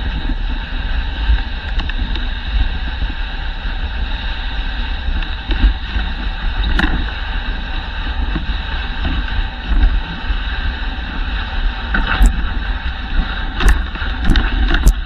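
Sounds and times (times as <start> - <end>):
sled runners hissing over snow: 0.0 - 15.0
wind rumbling on microphone: 0.0 - 15.0.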